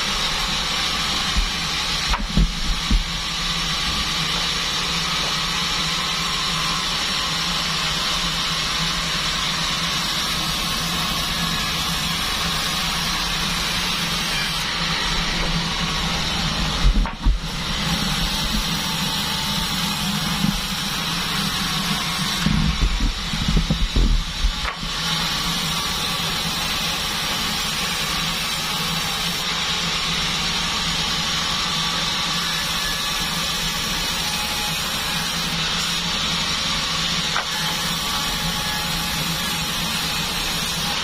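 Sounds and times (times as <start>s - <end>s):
band sawmill humming: 0.0s - 41.0s.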